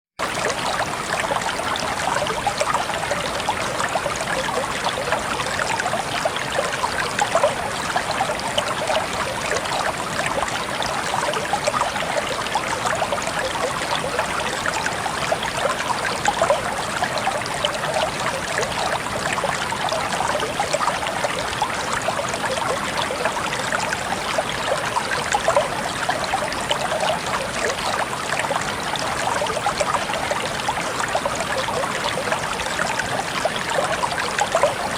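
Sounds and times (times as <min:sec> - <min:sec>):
water trickling and dripping: 0:00.2 - 0:34.9.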